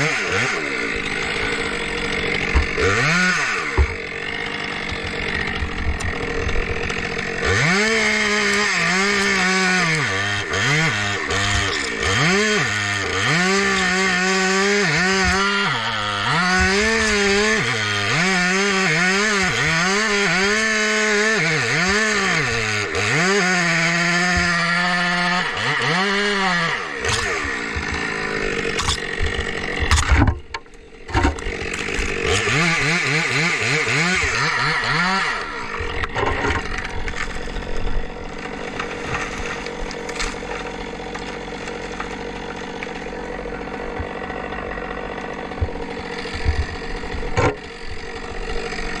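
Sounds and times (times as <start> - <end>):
chainsaw revving: 0.0 - 49.0.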